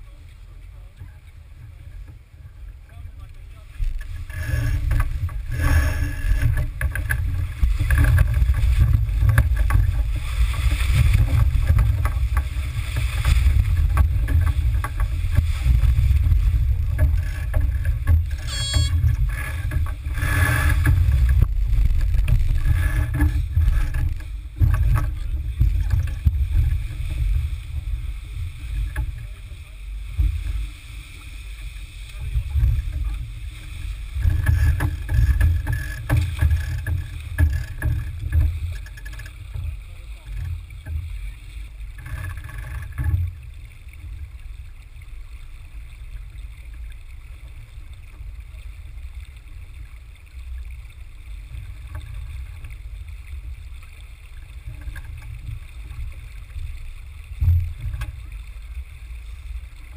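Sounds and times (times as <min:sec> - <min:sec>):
low rumble of wind and water: 0:00.0 - 0:59.9.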